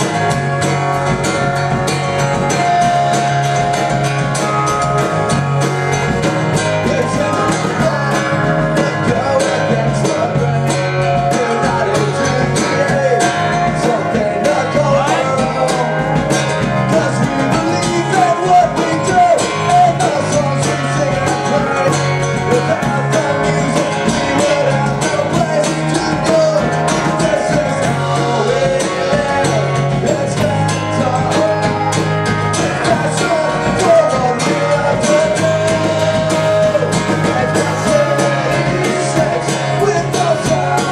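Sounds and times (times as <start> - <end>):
person singing: 0.0 - 40.9
steady bass line: 0.0 - 40.9
strummed acoustic guitars: 0.0 - 40.9.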